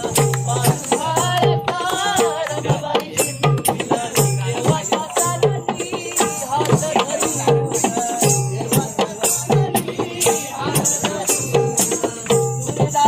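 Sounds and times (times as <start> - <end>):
drum beating quick rhythm: 0.0 - 13.0
high jingling percussion: 0.0 - 13.0.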